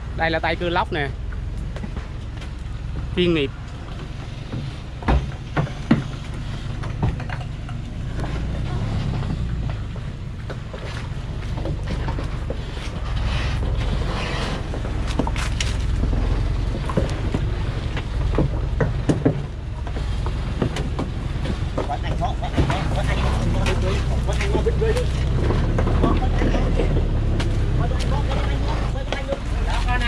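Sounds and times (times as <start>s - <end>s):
truck diesel engine rumbling: 0.0s - 30.0s.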